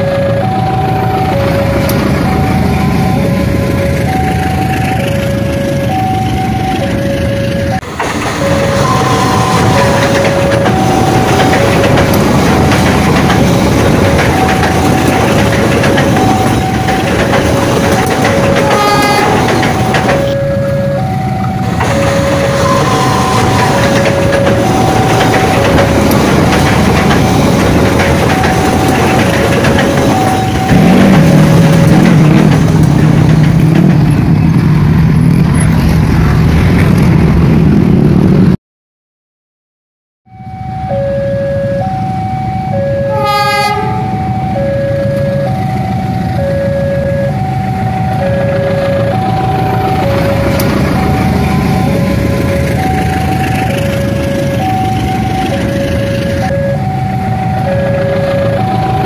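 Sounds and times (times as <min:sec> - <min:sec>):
two-tone crossing alarm beeps: 0:00.0 - 0:32.5, 0:40.3 - 0:59.0
train coaches rolling past: 0:00.0 - 0:38.5, 0:40.6 - 0:59.0.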